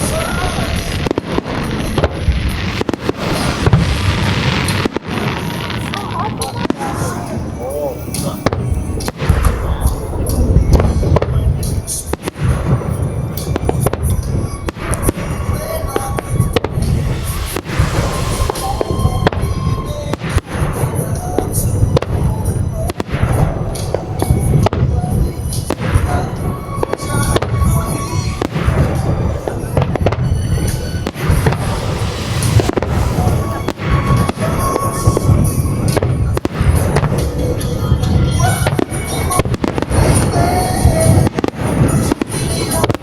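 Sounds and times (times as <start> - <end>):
fireworks booming and cracking: 0.0 - 43.0
music playing: 0.0 - 43.0.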